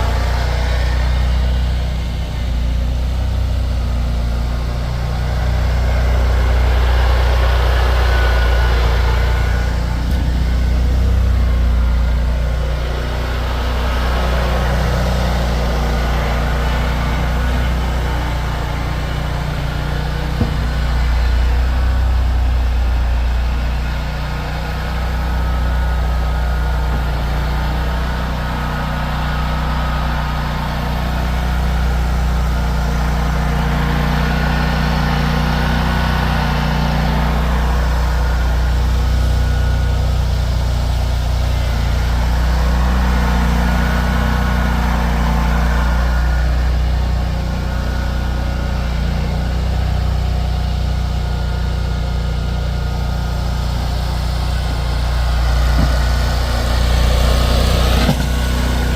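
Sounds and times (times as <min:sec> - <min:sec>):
vehicle engine humming: 0:00.0 - 0:58.9.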